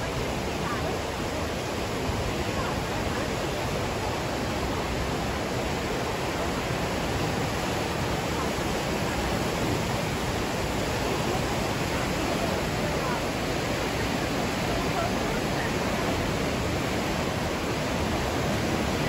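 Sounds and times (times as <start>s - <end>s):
whitewater rushing through canyon: 0.0s - 19.0s.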